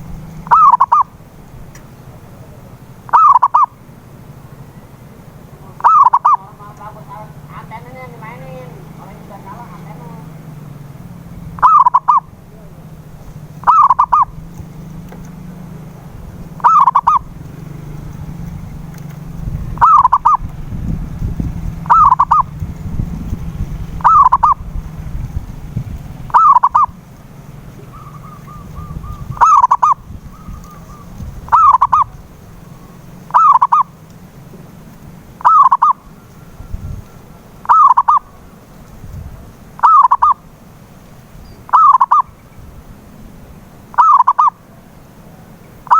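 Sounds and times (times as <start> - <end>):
dove cooing: 0.0 - 1.3, 2.1 - 25.3, 26.2 - 38.7, 39.8 - 40.5, 41.6 - 42.4, 43.9 - 45.9
low steady hum: 0.0 - 45.9.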